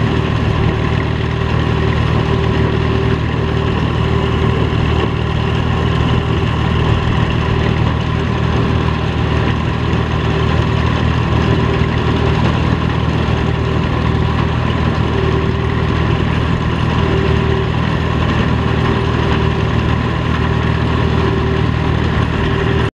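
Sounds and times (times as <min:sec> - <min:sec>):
combine engine drone: 0:00.0 - 0:22.9
short whine: 0:00.0 - 0:22.9.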